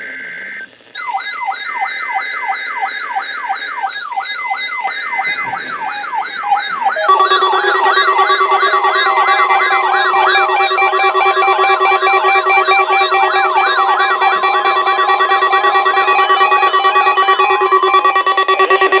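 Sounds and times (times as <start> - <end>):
steady alarm tones: 0.0 - 19.0
warbling radio alarm: 0.0 - 19.0.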